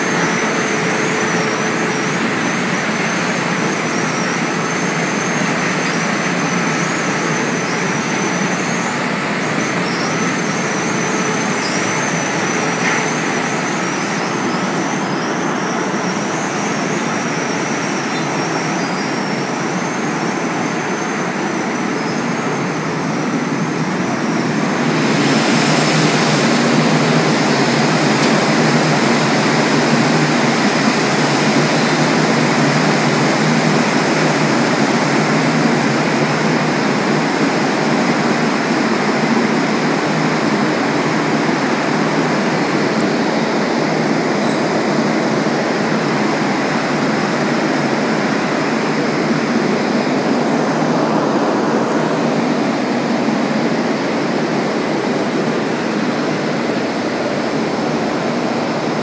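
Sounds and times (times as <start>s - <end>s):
conveyor machinery running: 0.0s - 59.0s
high wavering whine: 0.0s - 59.0s.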